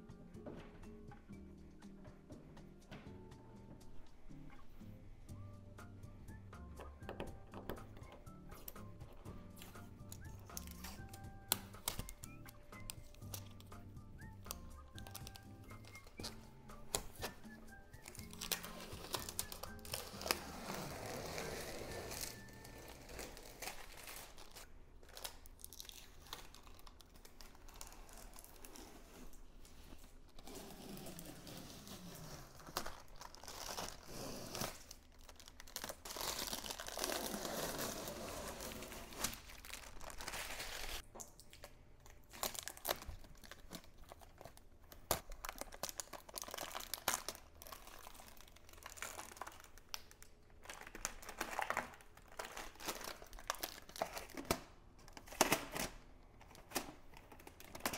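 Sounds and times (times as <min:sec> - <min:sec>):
plastic packaging crinkling: 0:08.0 - 0:57.9.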